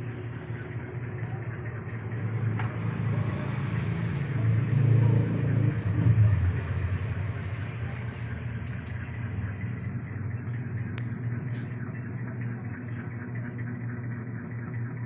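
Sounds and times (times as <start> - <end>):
motor running with low rumble: 0.0 - 15.0.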